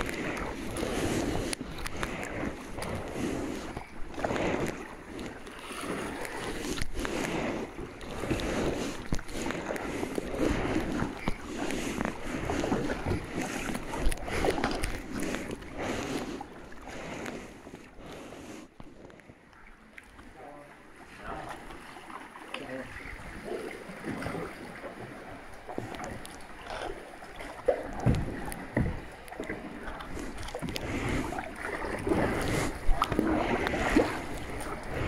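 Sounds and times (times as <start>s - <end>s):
kayak paddle splashing: 0.0s - 35.0s
water sloshing along hull: 0.0s - 35.0s.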